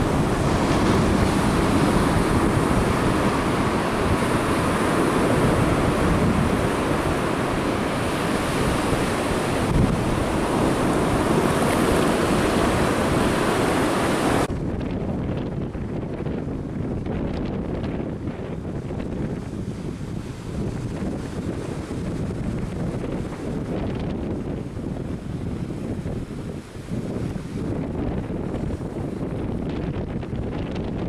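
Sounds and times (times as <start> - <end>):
surf washing onto beach: 0.0 - 31.0
wind buffeting microphone: 0.0 - 31.0.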